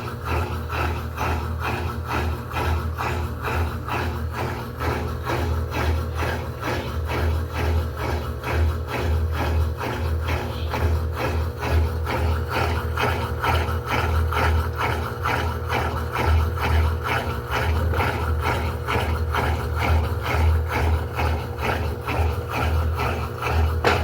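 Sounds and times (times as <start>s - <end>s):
washing machine agitating: 0.0s - 24.0s.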